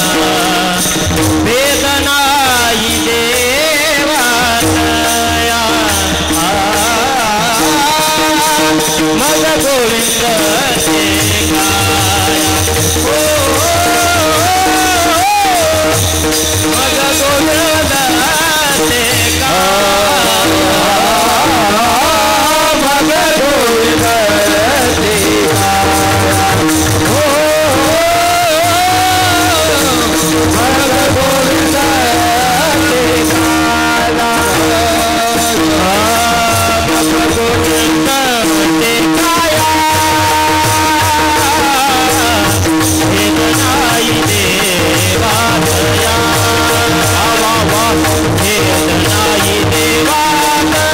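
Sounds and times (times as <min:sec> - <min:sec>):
man singing devotional melody: 0:00.0 - 0:50.9.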